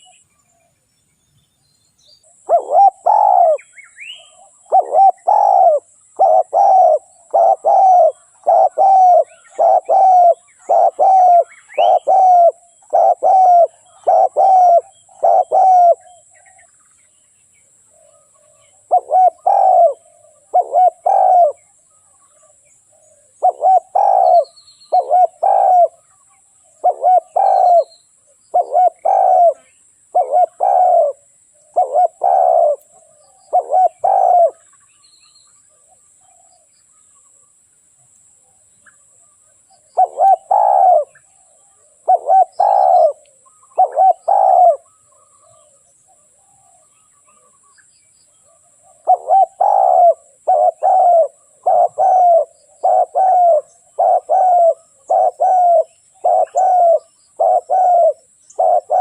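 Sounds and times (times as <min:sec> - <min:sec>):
dove cooing: 0:02.3 - 0:16.6, 0:17.9 - 0:34.7, 0:39.8 - 0:47.6, 0:48.4 - 0:59.0.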